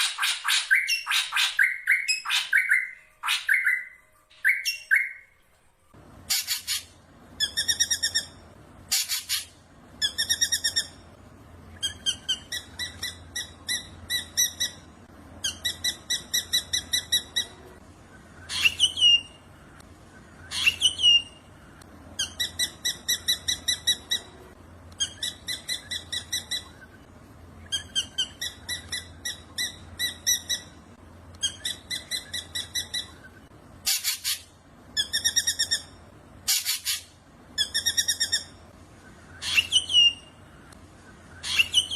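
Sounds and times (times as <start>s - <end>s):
bird song of repeated notes: 0.0s - 41.9s
harsh bird calls: 6.3s - 41.9s.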